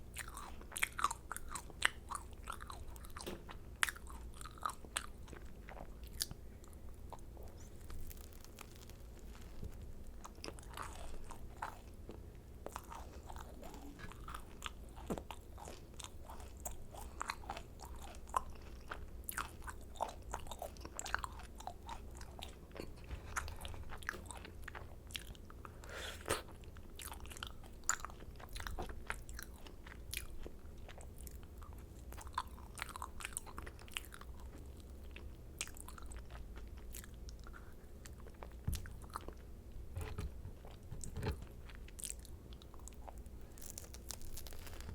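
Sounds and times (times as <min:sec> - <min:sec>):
faint low hum: 0:00.0 - 0:44.9
crunchy chewing: 0:00.1 - 0:44.9
wet chewing: 0:00.2 - 0:44.9.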